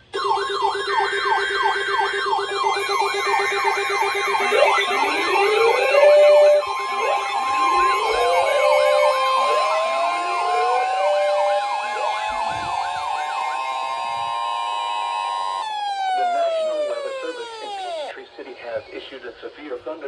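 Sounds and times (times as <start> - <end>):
sirens wailing and yelping: 0.0 - 19.2
steady warning alarm tone: 0.0 - 19.5.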